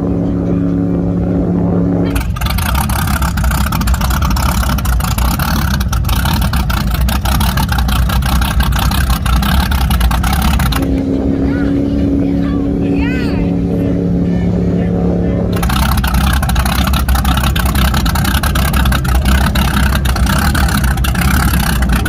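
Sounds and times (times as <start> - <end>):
engine running hard: 0.0 - 22.0
steady droning tone: 0.0 - 22.0.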